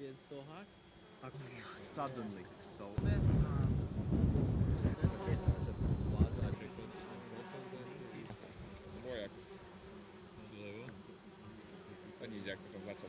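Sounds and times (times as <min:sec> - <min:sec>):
flies buzzing: 0:00.0 - 0:13.0.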